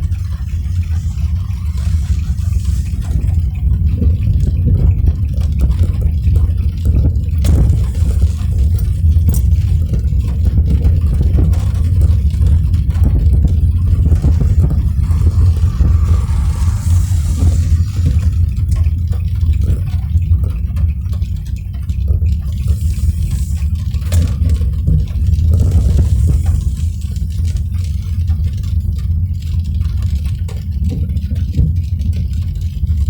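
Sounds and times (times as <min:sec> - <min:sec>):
car driving on wet road: 0:00.0 - 0:32.2
rain tapping on car: 0:00.0 - 0:33.0.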